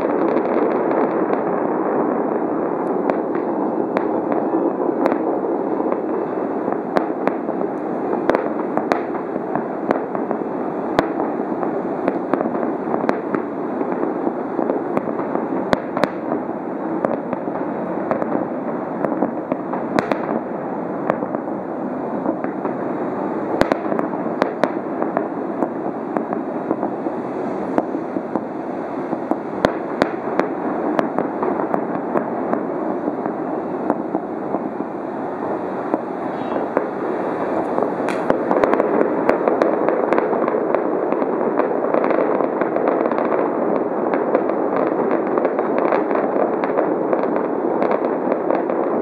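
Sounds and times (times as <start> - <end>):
fireworks cracking: 0.0 - 49.0
fireworks rumbling: 0.0 - 49.0.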